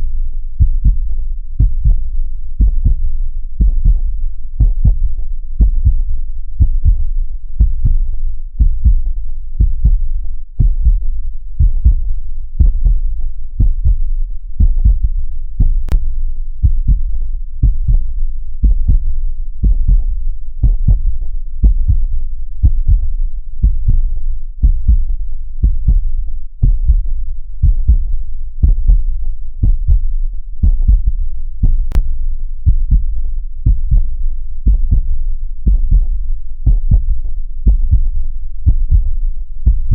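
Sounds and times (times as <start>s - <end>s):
heartbeat thumps: 0.6s - 39.9s.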